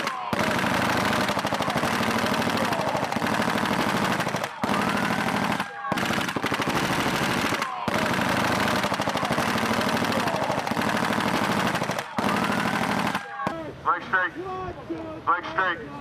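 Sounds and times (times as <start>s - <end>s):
automatic machine-gun fire: 0.0s - 13.6s.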